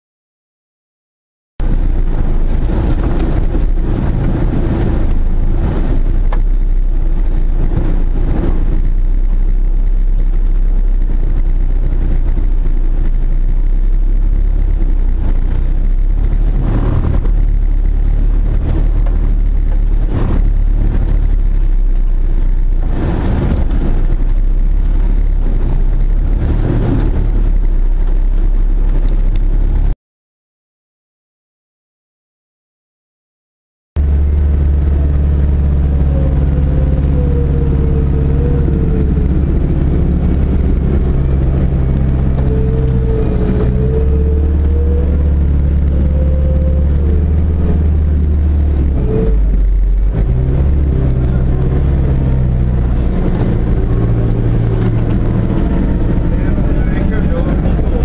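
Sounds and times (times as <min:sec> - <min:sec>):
vehicle bumping over ruts: 0:01.6 - 0:29.9, 0:34.0 - 0:58.0
vehicle engine low drone: 0:01.6 - 0:30.0, 0:34.0 - 0:58.0.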